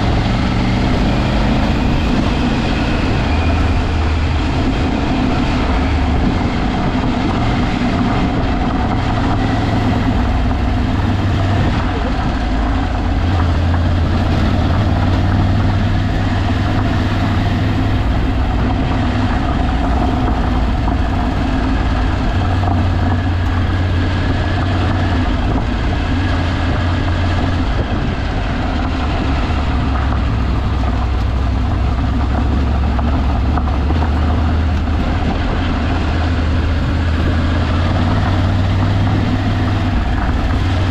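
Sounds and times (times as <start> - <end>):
tyre and road noise: 0.0 - 40.9
vehicle engine droning: 0.0 - 40.9.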